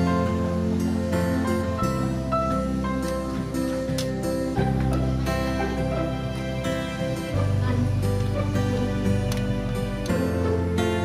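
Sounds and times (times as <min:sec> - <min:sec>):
soft plucked guitar music: 0:00.0 - 0:11.0.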